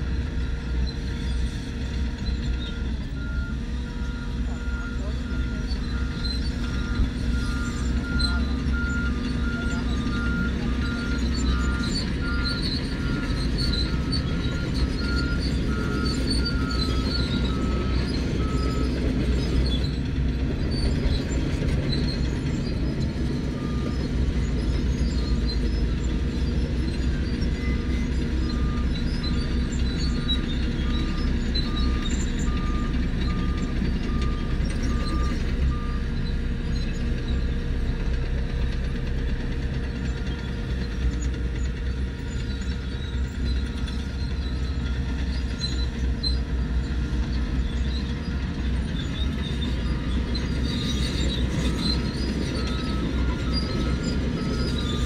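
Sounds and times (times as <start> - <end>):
heavy diesel engines running: 0.0 - 55.0
reversing alarm beeping: 0.0 - 55.0.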